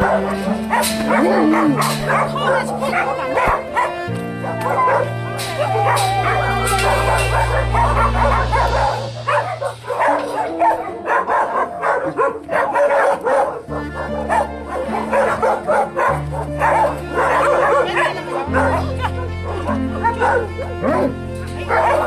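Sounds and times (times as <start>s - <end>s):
background music with low bass: 0.0s - 22.0s
dogs barking and yipping: 0.0s - 22.0s.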